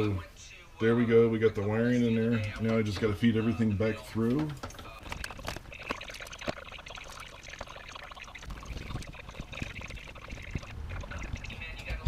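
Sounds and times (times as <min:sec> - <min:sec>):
wires rustling and scraping: 0:01.6 - 0:12.0.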